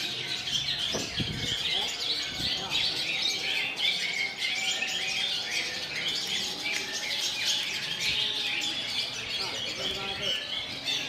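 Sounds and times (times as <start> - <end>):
songbird twittering: 0.0 - 11.0.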